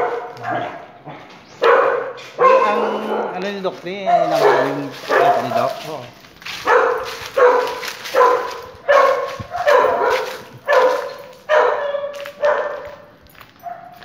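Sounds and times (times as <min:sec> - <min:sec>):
dog barking: 0:00.0 - 0:14.0.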